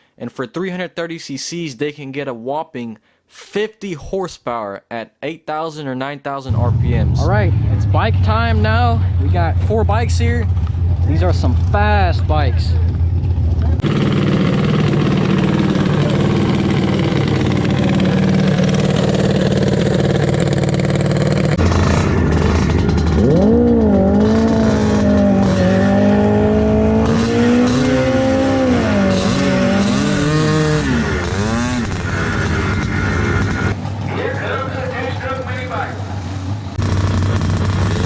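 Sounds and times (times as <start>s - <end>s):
motorcycle engines idling: 6.5s - 38.0s
motorcycle revving: 6.5s - 38.0s.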